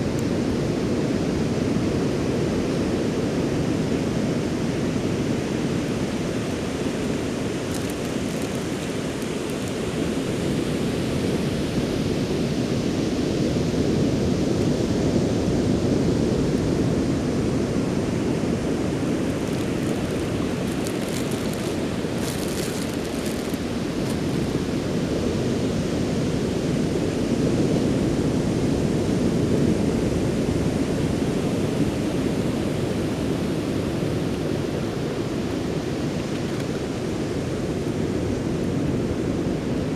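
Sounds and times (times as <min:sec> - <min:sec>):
ocean surf washing onto beach: 0:00.1 - 0:39.9.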